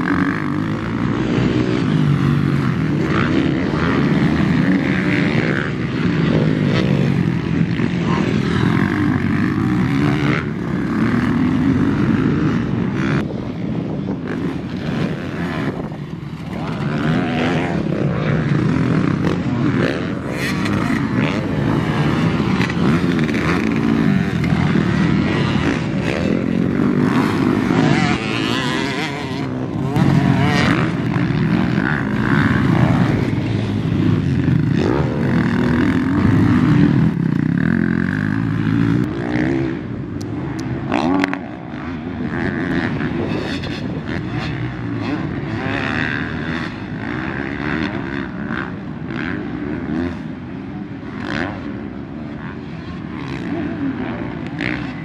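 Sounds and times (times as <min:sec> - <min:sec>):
motocross motorcycle engines revving: 0:00.0 - 0:55.0.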